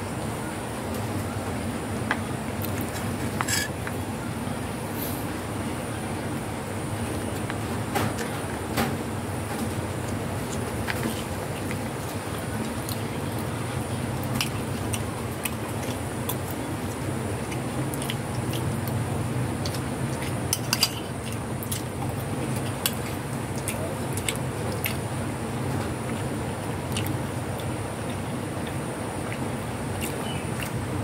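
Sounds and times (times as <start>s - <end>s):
low background noise: 0.0s - 31.0s
cats chewing: 0.9s - 31.0s.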